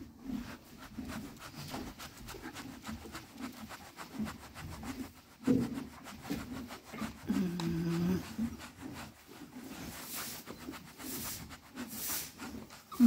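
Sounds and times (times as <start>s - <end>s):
hand scratching horse hair: 0.0s - 13.0s.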